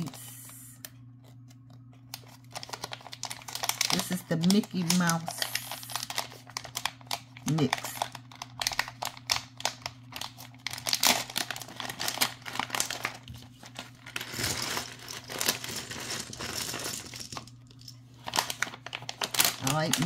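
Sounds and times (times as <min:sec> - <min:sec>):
plastic bag crinkling: 0:01.4 - 0:20.0.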